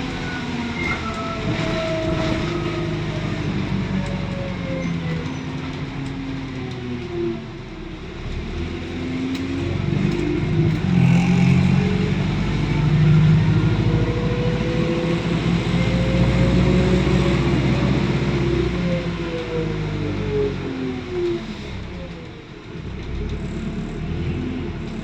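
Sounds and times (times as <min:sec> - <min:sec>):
bus diesel engine pulling hard: 0:00.0 - 0:25.0.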